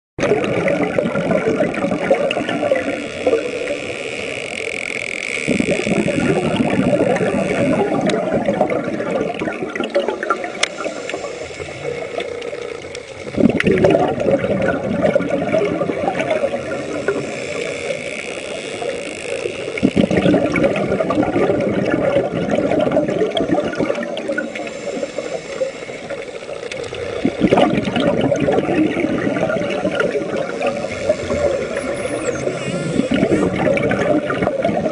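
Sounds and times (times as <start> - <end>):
water churning and gurgling: 0.2 - 34.9.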